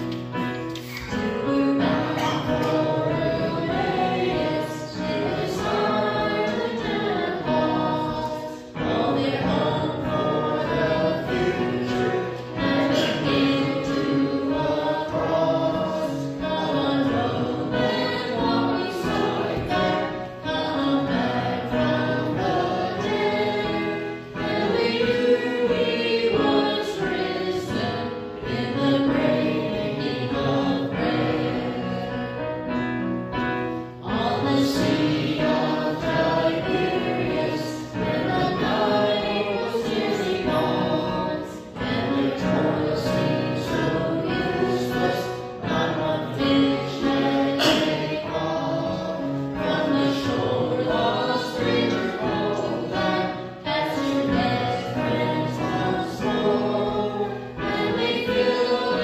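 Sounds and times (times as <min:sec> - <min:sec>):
church choir singing a hymn: 0:00.0 - 0:59.0
keyboard accompaniment: 0:00.0 - 0:59.0.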